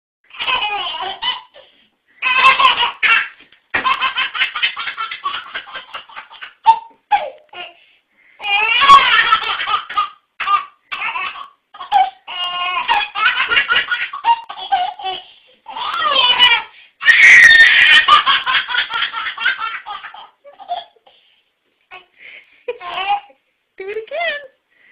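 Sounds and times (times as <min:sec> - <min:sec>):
baby laughing: 0:00.3 - 0:07.8, 0:08.4 - 0:21.2, 0:22.7 - 0:23.4.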